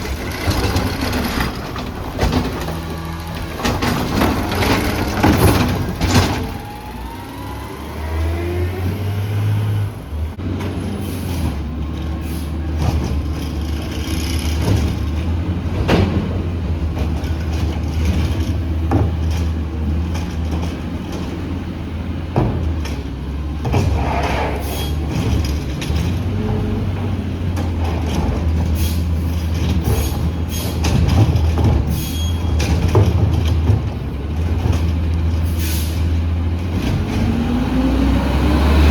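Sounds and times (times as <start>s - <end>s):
metal clanks and knocks: 0.0s - 6.6s, 12.7s - 37.4s
diesel engine droning: 0.0s - 38.9s.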